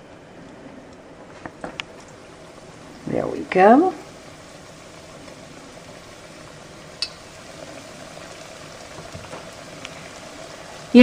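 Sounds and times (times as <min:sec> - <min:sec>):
chicken frying in hot oil: 0:01.4 - 0:11.0.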